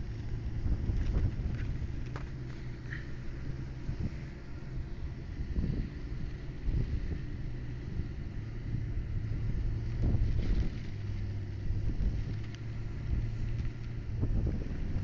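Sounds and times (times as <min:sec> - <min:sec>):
diesel compressor engine humming: 0:00.0 - 0:15.0
wind rumbling on microphone: 0:00.0 - 0:15.0.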